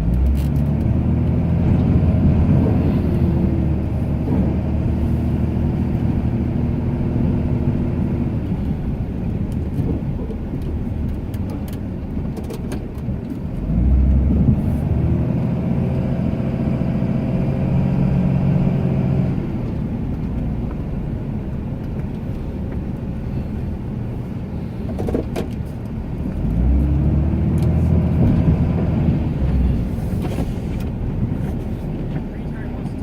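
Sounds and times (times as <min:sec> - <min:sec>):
pickup engine revving under load: 0:00.0 - 0:11.2, 0:13.4 - 0:25.4, 0:26.0 - 0:32.3.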